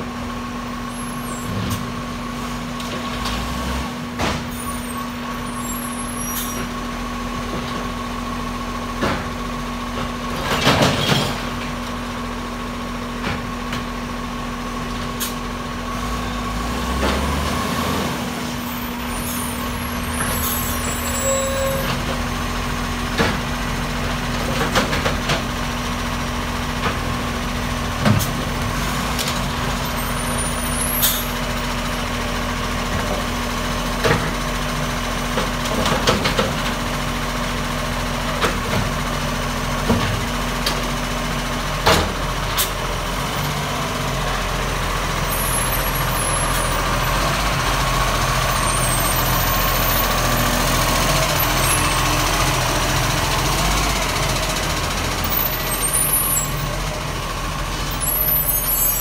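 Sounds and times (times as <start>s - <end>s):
garbage truck diesel engine: 0.0s - 59.0s.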